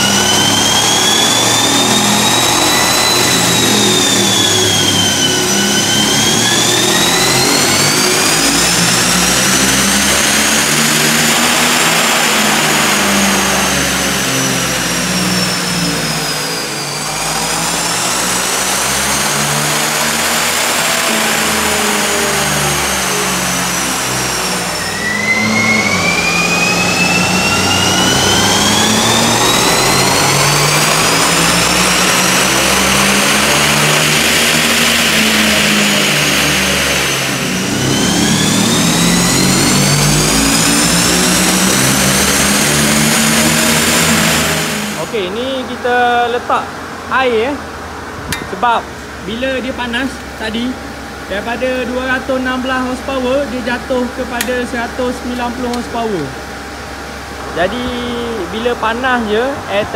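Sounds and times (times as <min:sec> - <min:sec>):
car engine revving on a dyno: 0:00.0 - 0:59.9
high turbo whine: 0:00.0 - 0:59.9.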